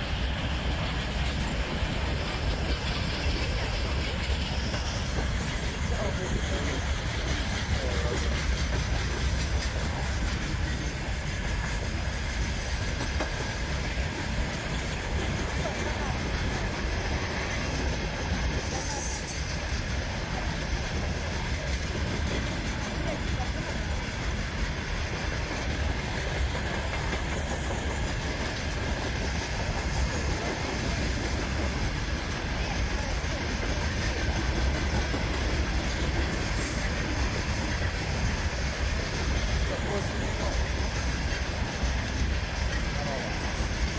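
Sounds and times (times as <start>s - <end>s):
diesel freight train rumbling past: 0.0s - 43.9s.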